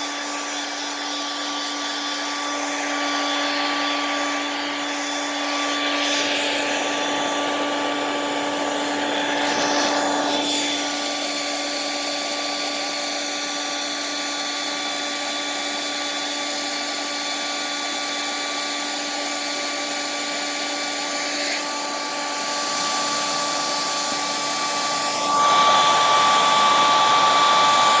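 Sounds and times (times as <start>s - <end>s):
blow dryer running: 0.0s - 28.0s.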